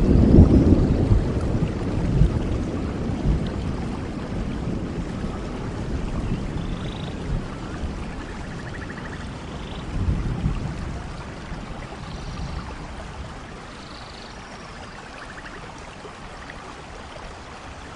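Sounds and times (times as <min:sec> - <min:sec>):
thunder rumble: 0:00.0 - 0:14.5
steady rain: 0:00.0 - 0:17.9.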